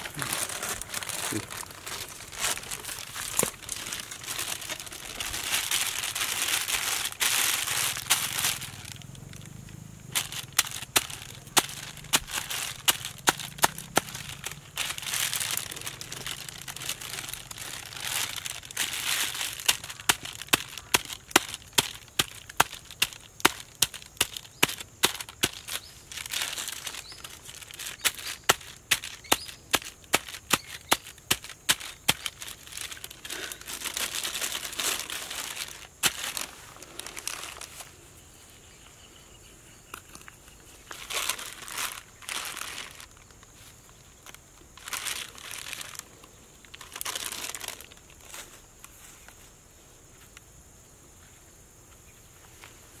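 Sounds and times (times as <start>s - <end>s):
plastic bag crinkling: 0.0s - 37.9s, 40.8s - 48.2s.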